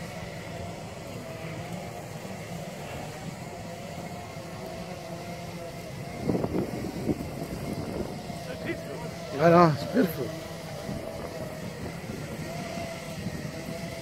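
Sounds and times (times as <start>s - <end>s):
electric drive humming: 0.0s - 14.0s.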